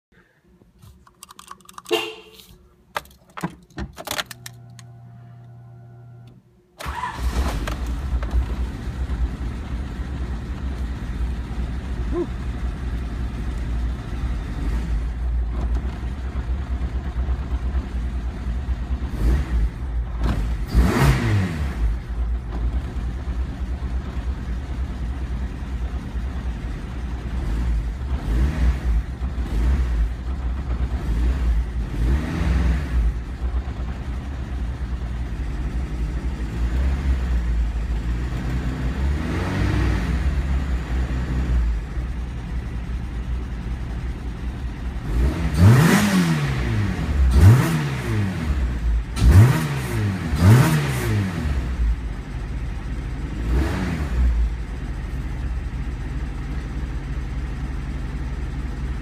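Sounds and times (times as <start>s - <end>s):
car engine idling and revving: 3.4s - 59.0s.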